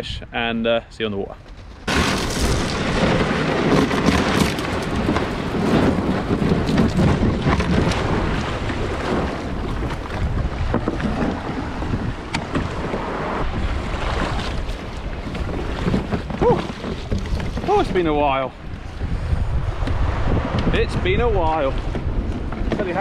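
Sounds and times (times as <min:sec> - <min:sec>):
wind buffeting microphone: 0:01.3 - 0:23.0
kayak hull grinding over pebbles: 0:01.5 - 0:23.0
small waves washing: 0:01.9 - 0:23.0.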